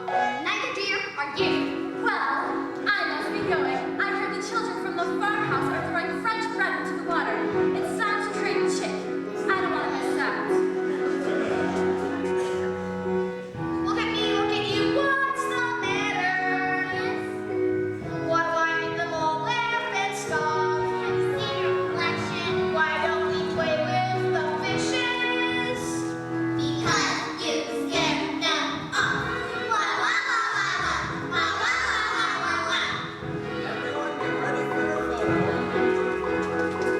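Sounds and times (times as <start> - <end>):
instrumental accompaniment: 0.0 - 36.9.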